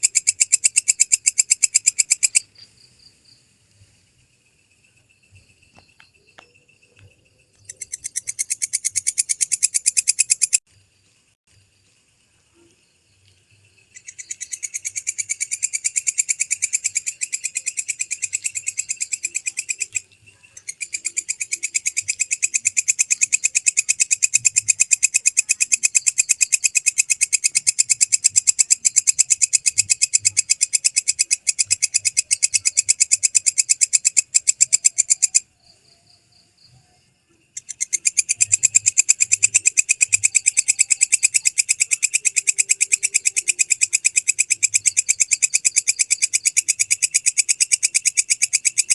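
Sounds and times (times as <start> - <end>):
bush cricket rapid pulses: 0.0 - 48.9.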